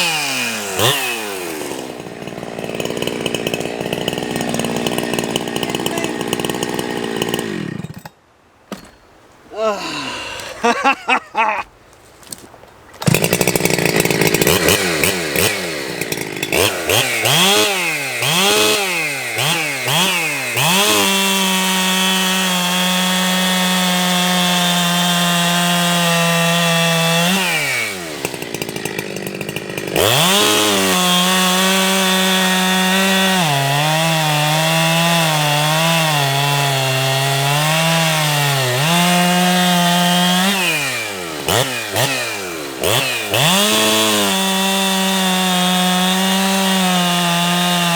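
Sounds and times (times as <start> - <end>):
chainsaw revving and cutting: 0.0 - 8.1, 13.0 - 47.9.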